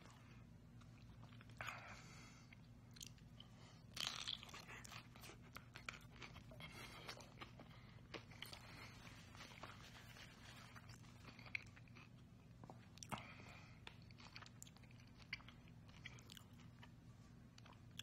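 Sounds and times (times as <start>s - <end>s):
low steady hum: 0.0s - 18.0s
crunchy food chewing: 2.5s - 17.0s.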